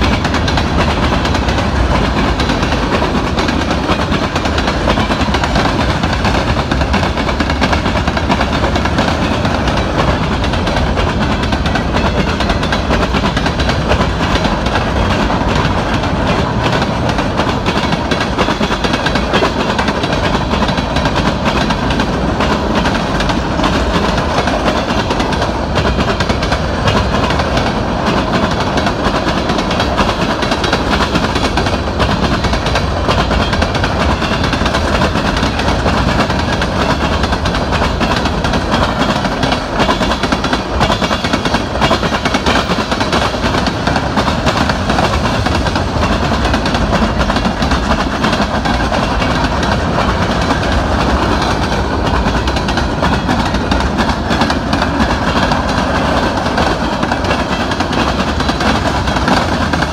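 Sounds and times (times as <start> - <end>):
freight cars rolling on rails: 0.0 - 59.9.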